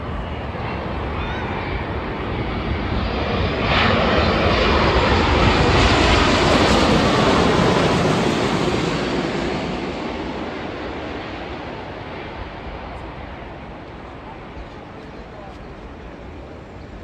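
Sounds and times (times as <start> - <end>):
airliner jet engines: 0.0 - 17.0.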